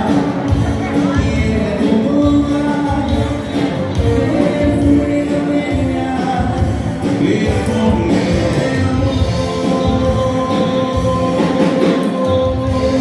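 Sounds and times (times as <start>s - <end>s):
live dance band playing: 0.0s - 13.0s
person singing: 0.0s - 13.0s.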